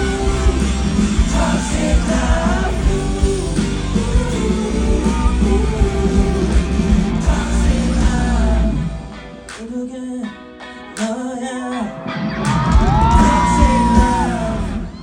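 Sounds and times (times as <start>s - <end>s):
live pop-rock band: 0.0s - 15.0s.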